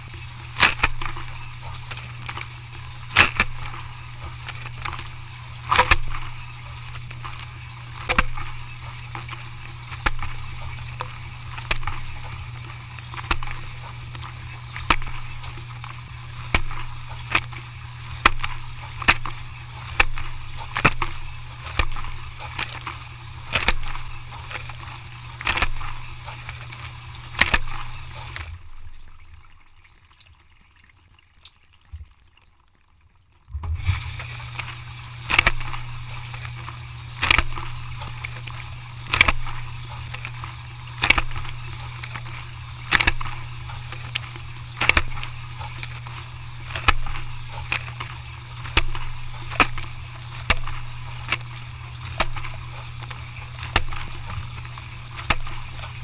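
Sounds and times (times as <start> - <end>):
low machine hum: 0.0 - 30.6, 33.4 - 56.0
water noise: 0.0 - 56.0.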